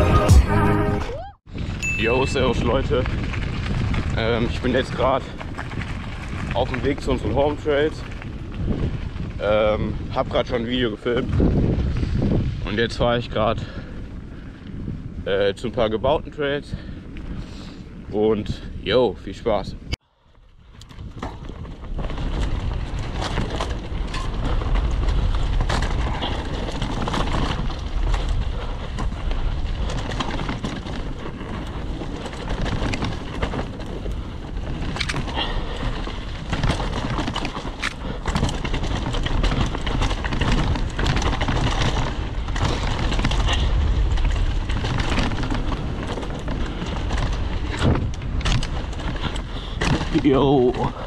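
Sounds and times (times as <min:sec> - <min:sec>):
wind rushing over microphone: 0:01.1 - 0:51.0
bike chain and frame rattling: 0:01.5 - 0:19.6, 0:20.6 - 0:51.0
bike tyres rolling over dirt: 0:01.5 - 0:51.0.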